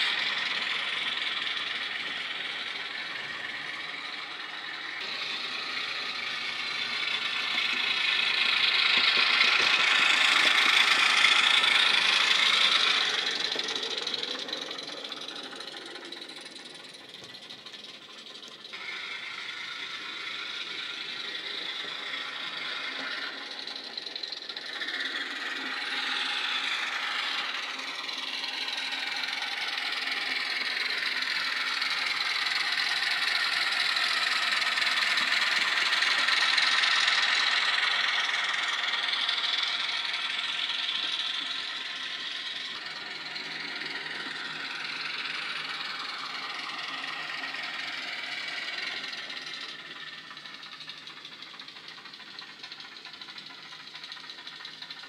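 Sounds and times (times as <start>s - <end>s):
small diesel engine running: 0.0s - 55.0s.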